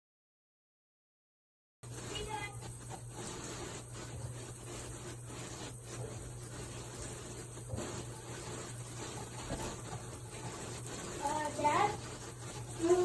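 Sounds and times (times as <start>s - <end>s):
shower water running: 1.8s - 13.0s.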